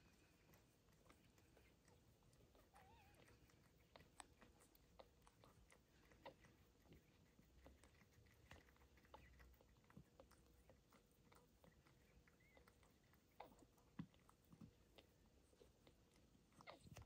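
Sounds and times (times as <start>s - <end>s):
cat licking kitten: 0.0s - 17.0s.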